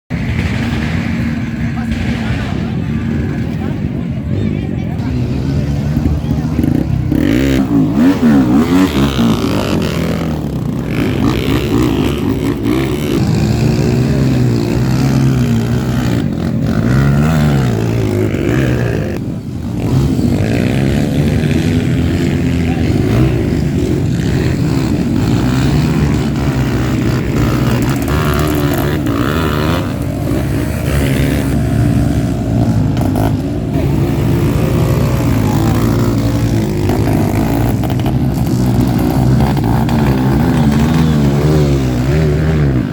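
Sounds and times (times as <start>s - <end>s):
motorcycle engines revving: 0.1s - 42.9s.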